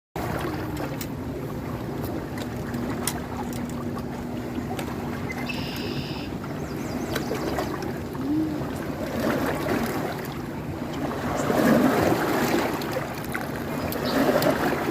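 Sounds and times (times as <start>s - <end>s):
river water rushing: 0.2s - 14.9s.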